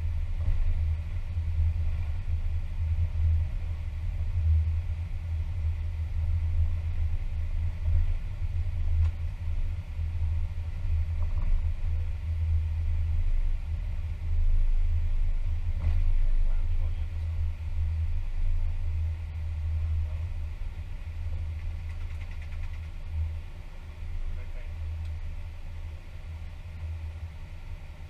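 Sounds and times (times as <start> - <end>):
low rumble in aircraft cockpit: 0.0 - 28.0.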